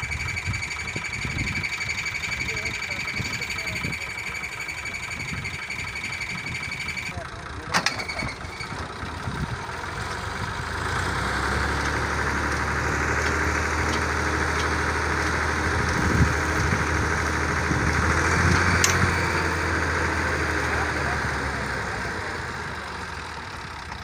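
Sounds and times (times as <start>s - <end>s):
diesel engine running pump: 0.0s - 24.0s.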